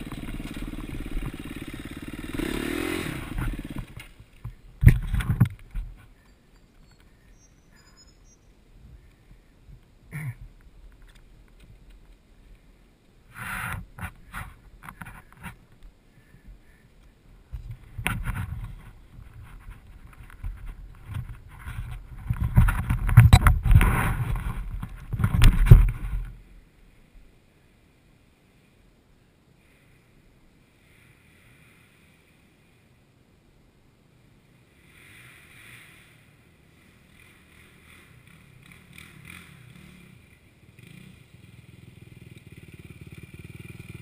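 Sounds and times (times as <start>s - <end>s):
faint background hiss: 0.0s - 44.0s.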